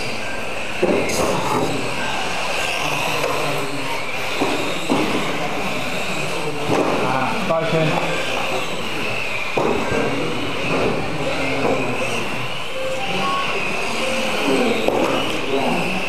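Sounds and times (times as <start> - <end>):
toy car electric motor whine: 0.0 - 16.0
voices chatting: 1.5 - 16.0.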